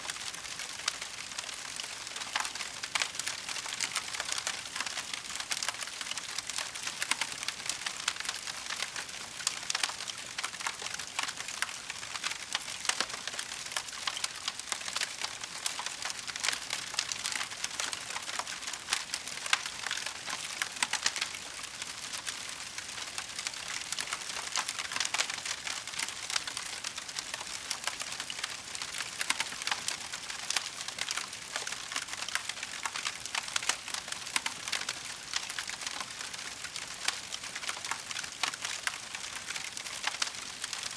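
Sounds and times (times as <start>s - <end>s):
wood fire crackling: 0.3s - 40.8s.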